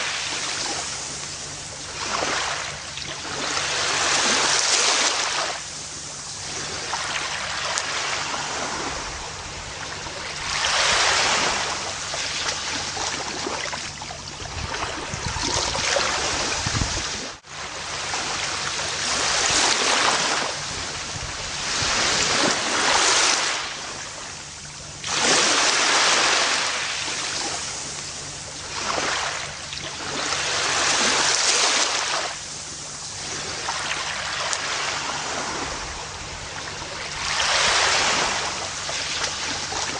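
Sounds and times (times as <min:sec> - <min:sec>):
ocean waves washing on beach: 0:00.0 - 0:39.9.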